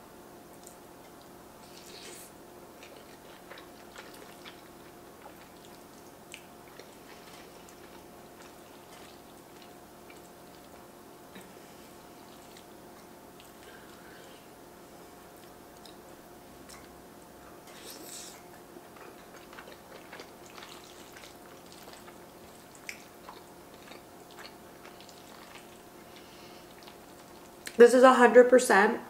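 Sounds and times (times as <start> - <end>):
faint steady hum: 0.0 - 29.0
close chewing with mouth clicks: 0.5 - 14.1, 15.2 - 27.8.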